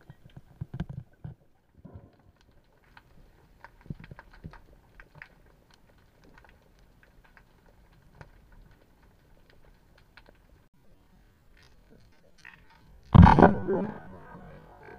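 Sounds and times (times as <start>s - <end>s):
underwater clicks and crackles: 0.0s - 14.9s.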